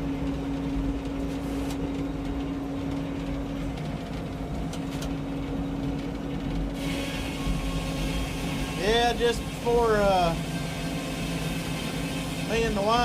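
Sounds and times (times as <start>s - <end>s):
sawmill machine drone: 0.0s - 13.0s.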